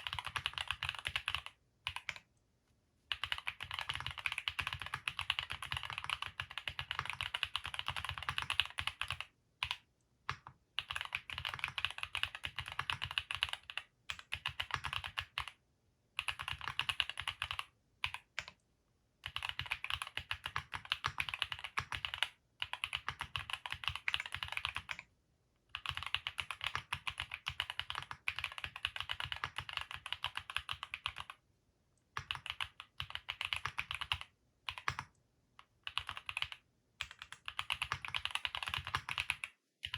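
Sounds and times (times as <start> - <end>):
mechanical keyboard typing: 0.0 - 2.2, 3.1 - 15.6, 16.2 - 18.6, 19.2 - 25.0, 25.7 - 31.4, 32.2 - 39.9.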